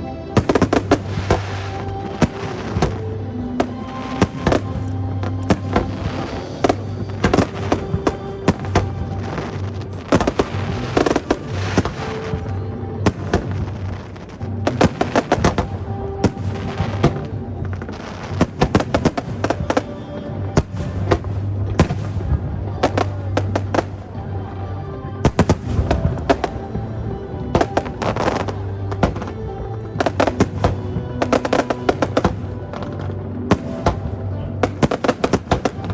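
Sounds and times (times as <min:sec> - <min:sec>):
music playing: 0:00.0 - 0:35.9
fireworks bangs and crackles: 0:00.1 - 0:35.9.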